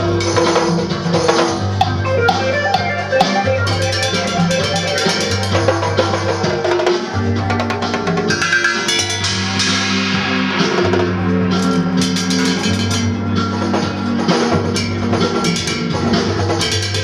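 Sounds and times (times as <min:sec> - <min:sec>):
hand drums and percussion: 0:00.0 - 0:17.0.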